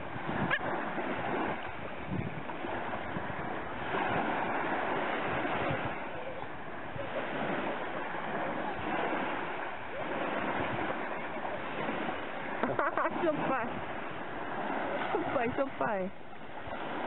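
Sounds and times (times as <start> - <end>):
small waves breaking on sand: 0.0 - 17.0.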